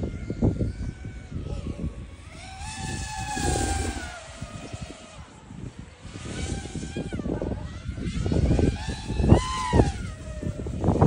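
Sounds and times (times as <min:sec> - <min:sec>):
drone motors whining: 0:00.0 - 0:11.0
wind rumble on microphone: 0:00.0 - 0:11.0.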